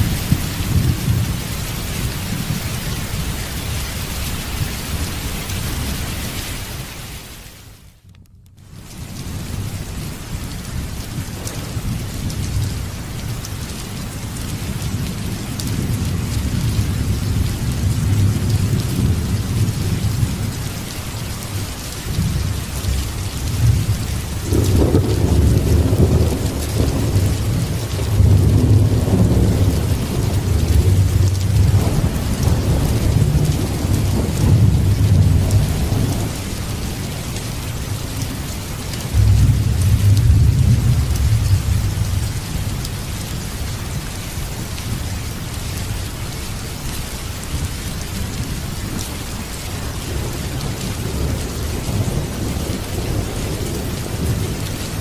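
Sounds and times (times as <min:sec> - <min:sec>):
thunder rumbling: 0:00.0 - 0:06.1, 0:08.7 - 0:44.0, 0:47.5 - 0:55.0
steady rain: 0:00.0 - 0:55.0.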